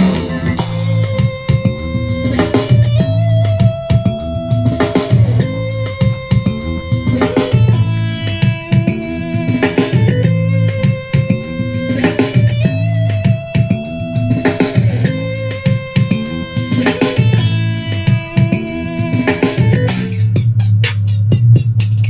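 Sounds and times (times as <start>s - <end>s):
electric guitar music with beat: 0.0s - 22.0s.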